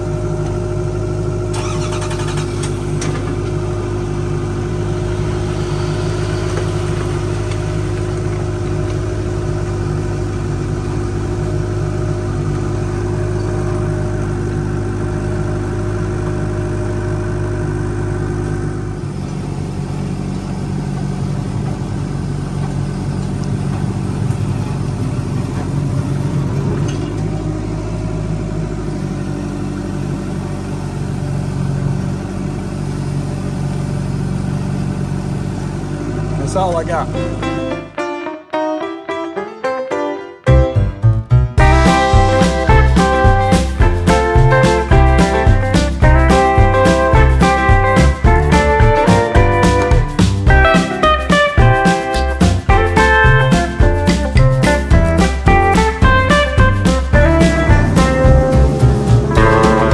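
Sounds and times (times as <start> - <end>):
diesel engine running: 0.0 - 38.0, 40.8 - 59.9.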